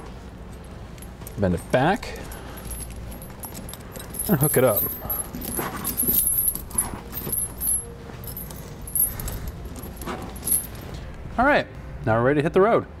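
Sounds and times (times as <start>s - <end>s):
tire chain links clinking: 0.0s - 11.3s.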